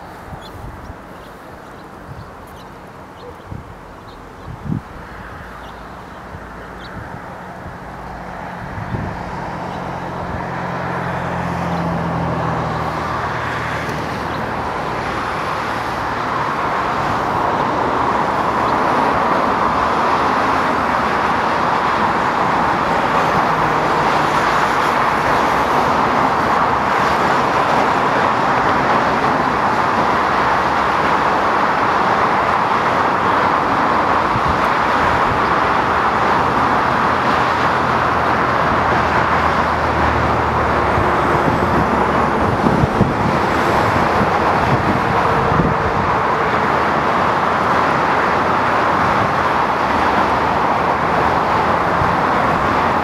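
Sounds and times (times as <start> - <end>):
diesel locomotive engines droning: 0.0 - 53.0.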